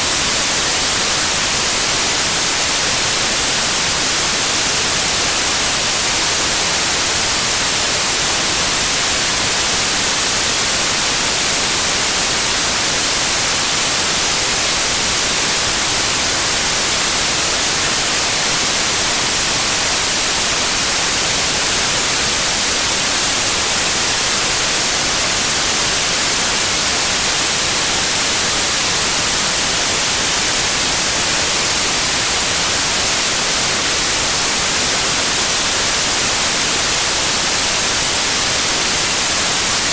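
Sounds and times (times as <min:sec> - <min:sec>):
loud even hiss: 0:00.0 - 0:39.9.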